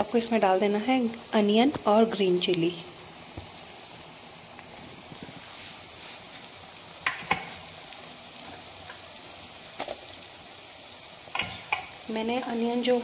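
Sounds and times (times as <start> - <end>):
ginger and garlic sizzling in oil: 0.0 - 13.0.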